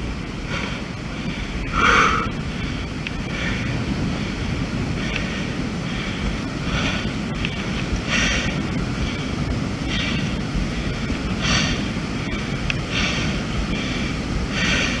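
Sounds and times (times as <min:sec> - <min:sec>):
person breathing heavily: 0:00.4 - 0:07.4, 0:08.0 - 0:15.0.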